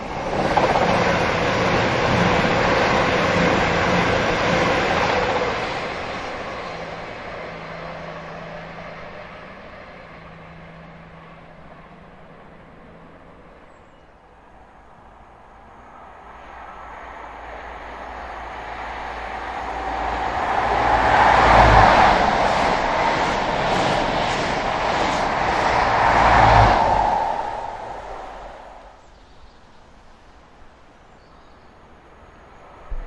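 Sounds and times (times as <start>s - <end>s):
diesel train passing: 0.0s - 29.2s
diesel train rumbling past: 0.0s - 29.2s.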